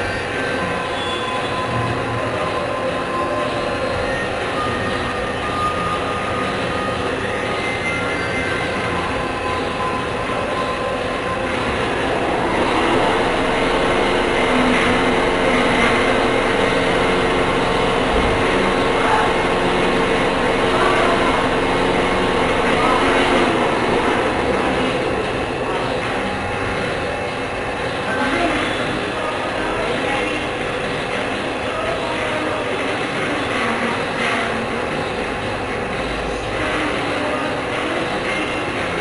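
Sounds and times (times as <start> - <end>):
machine tool running: 0.0 - 39.0.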